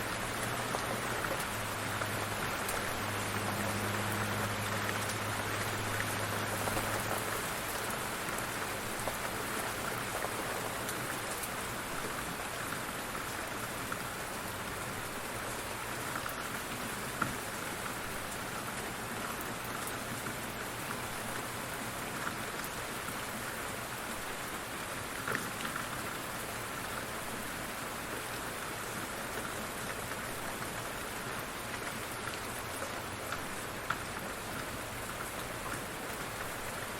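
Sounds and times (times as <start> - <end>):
light rain falling: 0.0 - 36.9.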